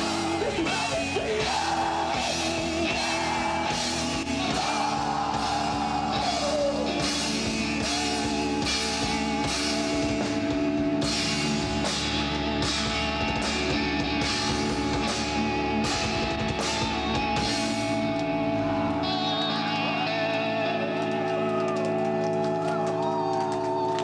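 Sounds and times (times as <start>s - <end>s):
drum kit with cymbal hits: 0.0s - 22.7s
electric guitars: 0.0s - 24.0s.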